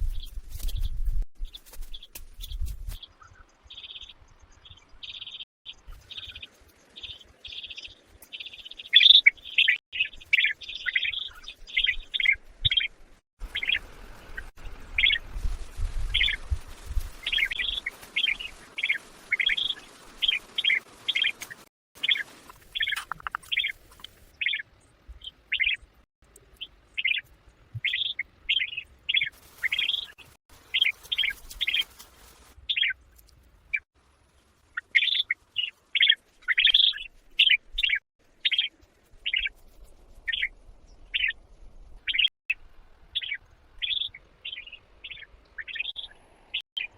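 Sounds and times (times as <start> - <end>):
bird chirping: 0.0 - 15.2, 17.3 - 32.0, 32.7 - 33.0, 34.6 - 39.6, 40.3 - 46.9.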